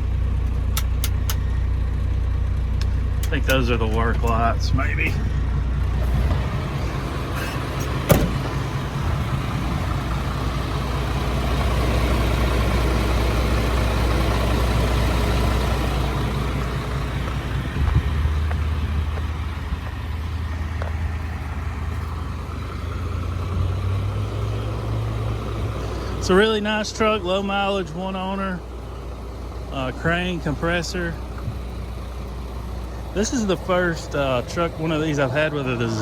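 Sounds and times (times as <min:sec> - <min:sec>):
diesel truck idling: 0:00.0 - 0:36.0.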